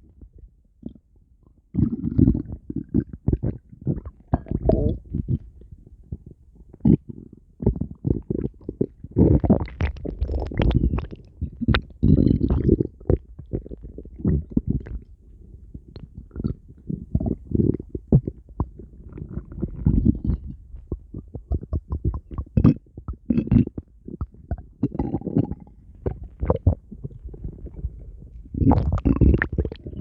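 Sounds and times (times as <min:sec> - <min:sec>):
stomach growling: 0:00.0 - 0:30.0.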